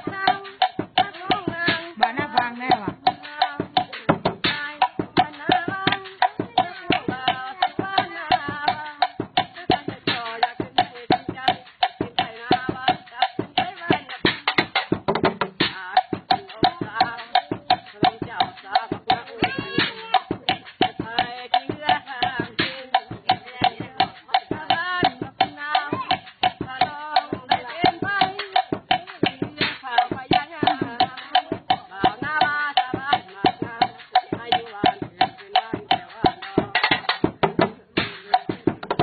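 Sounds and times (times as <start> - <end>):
person singing wavering melody: 0.0 - 14.6, 15.8 - 37.0
stick drumming on log drum: 0.0 - 39.0.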